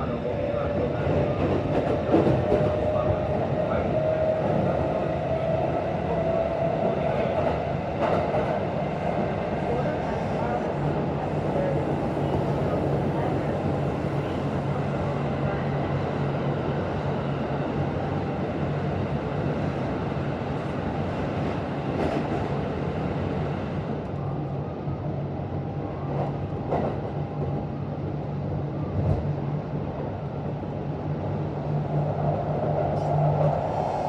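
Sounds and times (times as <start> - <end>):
electric train hum: 0.0 - 34.0.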